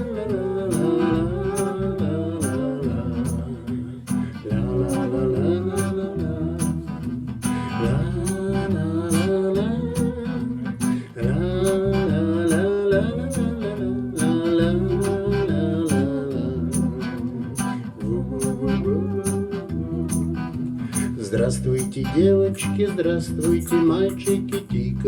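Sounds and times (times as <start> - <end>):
percussion beat: 0.0 - 24.9
guitar: 0.0 - 25.0
steady bass line: 0.0 - 25.0.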